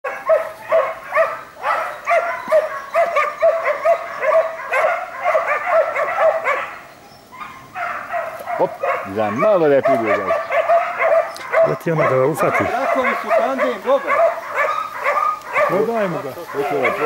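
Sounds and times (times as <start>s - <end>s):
dog barking high-pitched: 0.1s - 17.0s.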